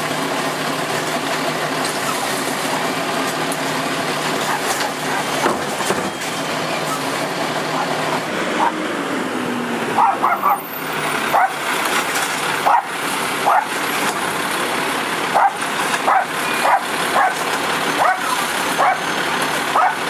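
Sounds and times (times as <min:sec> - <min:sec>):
garbage truck running: 0:00.0 - 0:20.0.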